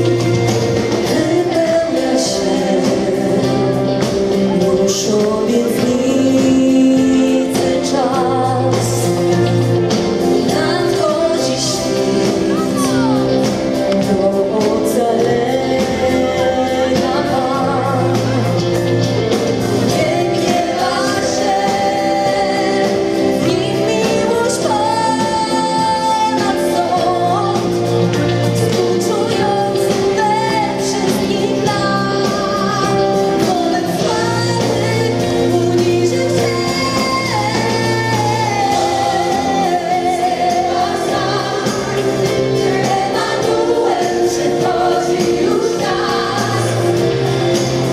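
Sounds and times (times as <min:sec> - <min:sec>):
bass and guitars: 0:00.0 - 0:47.9
gospel choir singing: 0:00.0 - 0:47.9.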